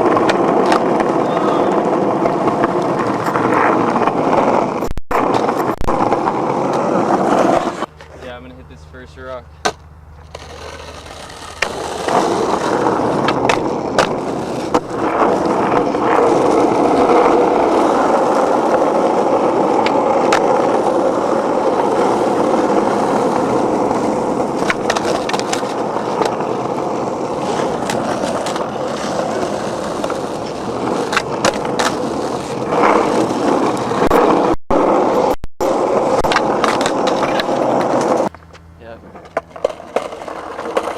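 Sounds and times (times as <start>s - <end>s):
skateboard clicks and knocks: 0.0s - 8.2s, 9.6s - 40.9s
skateboard wheels rolling on concrete: 0.0s - 40.9s.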